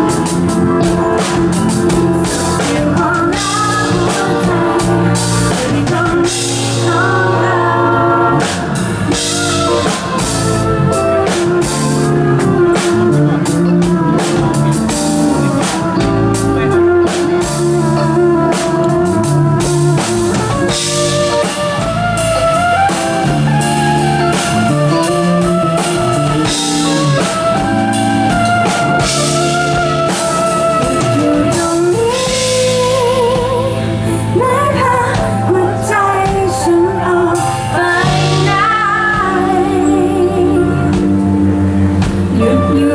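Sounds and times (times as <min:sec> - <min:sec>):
woman singing: 0:00.0 - 0:16.1, 0:22.7 - 0:42.9
drum kit: 0:00.0 - 0:42.9
electric bass: 0:00.0 - 0:42.9
keyboard: 0:00.0 - 0:42.9.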